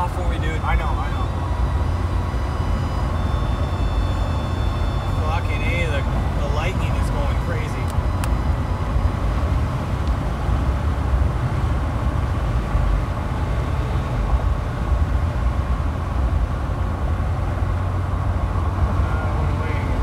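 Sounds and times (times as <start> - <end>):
car road noise rumble: 0.0 - 20.0.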